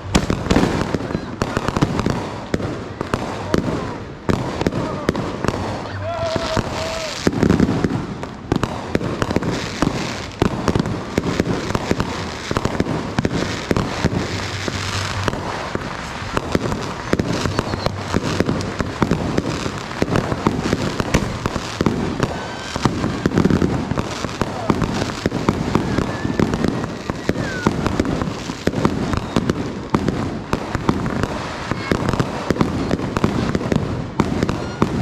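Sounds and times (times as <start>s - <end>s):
firecrackers crackling: 0.0s - 35.0s
firework bangs: 0.0s - 35.0s.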